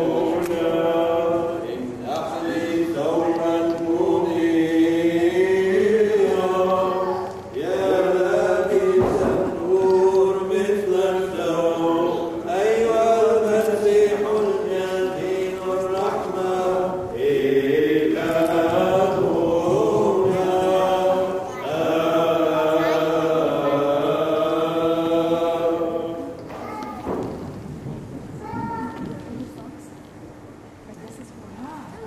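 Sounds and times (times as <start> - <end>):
voices chanting a hymn: 0.0 - 27.7.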